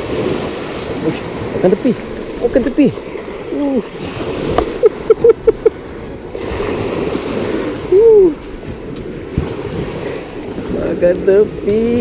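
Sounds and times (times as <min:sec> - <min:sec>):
surf washing on shore: 0:00.0 - 0:12.0.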